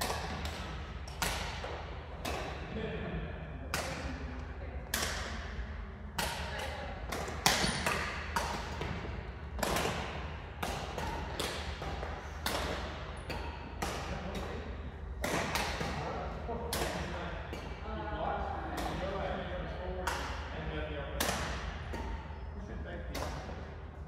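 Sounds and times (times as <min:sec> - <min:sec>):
rackets hitting shuttlecock: 0:00.0 - 0:02.7, 0:03.6 - 0:05.5, 0:06.1 - 0:17.8, 0:18.7 - 0:19.3, 0:20.0 - 0:20.5, 0:21.1 - 0:22.4, 0:23.0 - 0:23.8.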